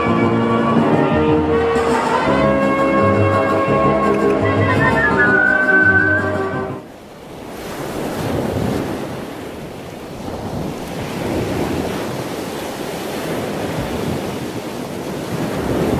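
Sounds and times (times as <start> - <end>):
sea waves breaking: 0.0 - 15.9.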